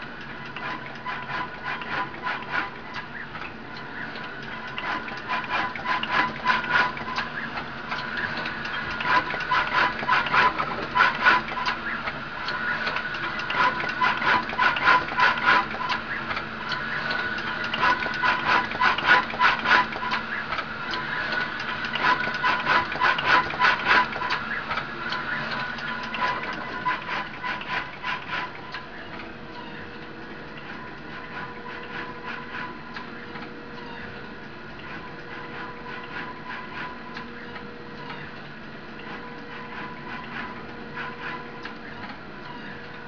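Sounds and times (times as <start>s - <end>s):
machine hum and whine: 0.0s - 43.0s
rapid mechanical clicking: 0.0s - 43.0s.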